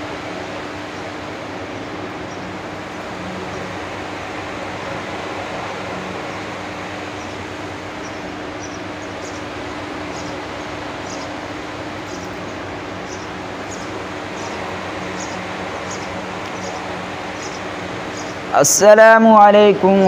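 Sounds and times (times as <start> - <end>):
ceiling fans whirring: 0.0 - 20.0
low hum: 0.0 - 20.0.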